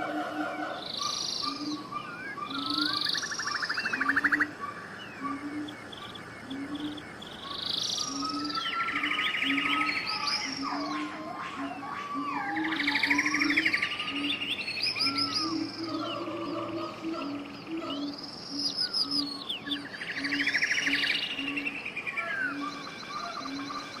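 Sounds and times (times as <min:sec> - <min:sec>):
birds trilling and chirping: 0:00.0 - 0:24.0.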